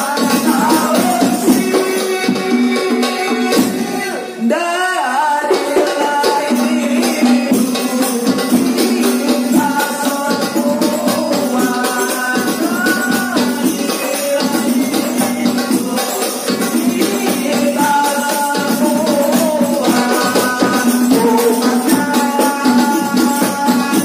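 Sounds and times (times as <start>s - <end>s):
jingling tambourine: 0.0s - 4.2s, 5.5s - 24.0s
frame drums: 0.0s - 4.3s, 5.4s - 24.0s
man singing into a microphone: 0.0s - 24.0s.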